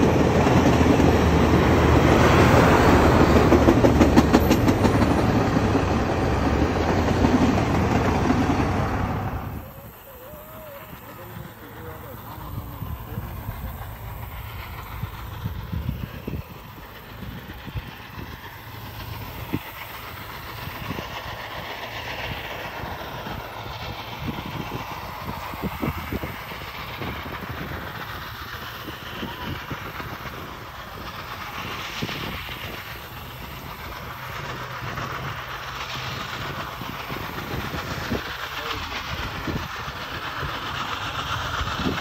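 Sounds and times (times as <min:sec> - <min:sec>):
steam locomotive rumble: 0:00.0 - 0:42.0.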